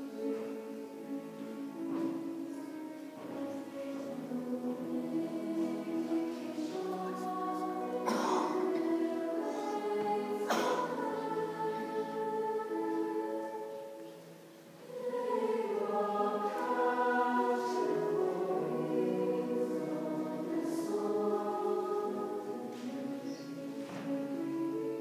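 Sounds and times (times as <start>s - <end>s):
choir singing sustained chords: 0.0s - 25.0s.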